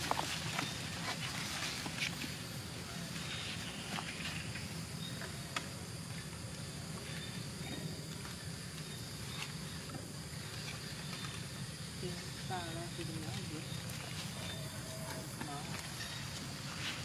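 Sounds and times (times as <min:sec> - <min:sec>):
faint insect chirps: 0:00.0 - 0:17.0.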